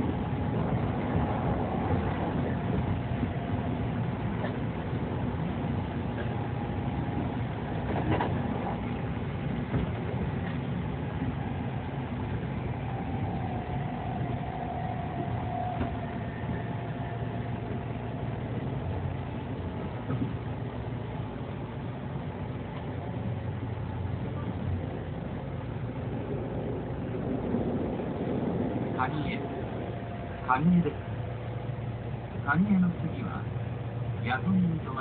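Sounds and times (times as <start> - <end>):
train interior rumble: 0.0 - 35.0.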